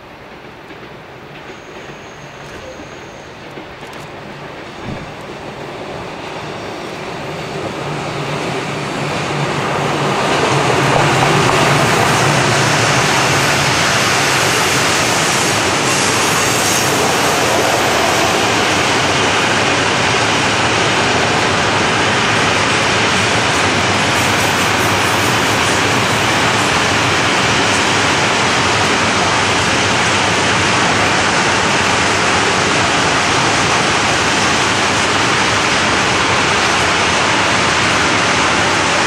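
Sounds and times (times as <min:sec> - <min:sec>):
freight train wheels rolling on rails: 0:00.0 - 0:39.0.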